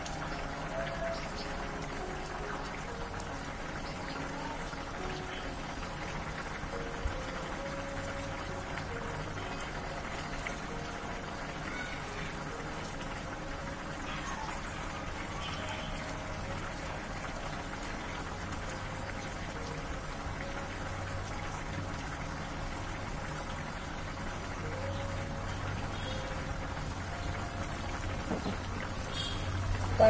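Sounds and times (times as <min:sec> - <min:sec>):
curry bubbling in a pan: 0:01.4 - 0:30.0.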